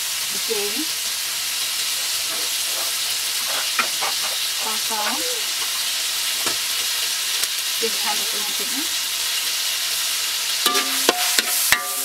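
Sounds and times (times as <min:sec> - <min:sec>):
pork sizzling in a wok: 0:00.0 - 0:12.0.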